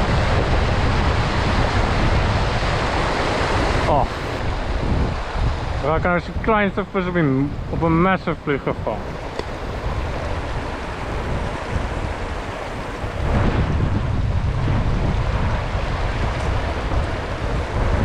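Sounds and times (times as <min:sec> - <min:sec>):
stream water rushing: 0:00.0 - 0:18.0
wind buffeting microphone: 0:00.0 - 0:18.0.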